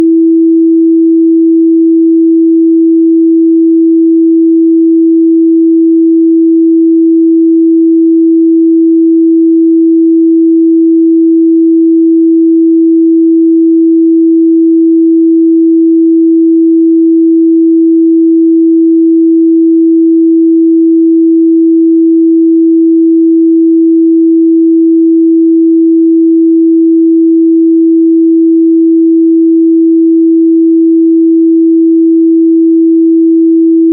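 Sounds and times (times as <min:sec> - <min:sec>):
sine wave test tone: 0:00.0 - 0:33.9.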